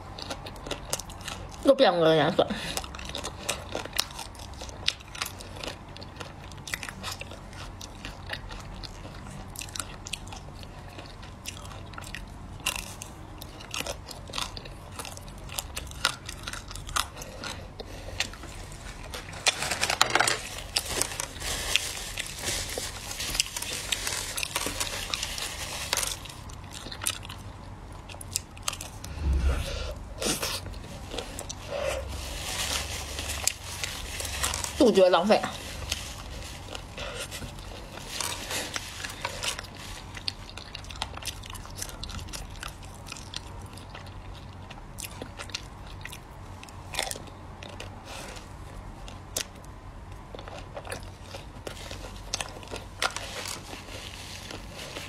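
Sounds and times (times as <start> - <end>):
chewing: 0.0 - 1.6, 2.6 - 29.4, 35.5 - 55.0
crunching frozen ice cream bar: 0.0 - 29.4, 30.2 - 55.0.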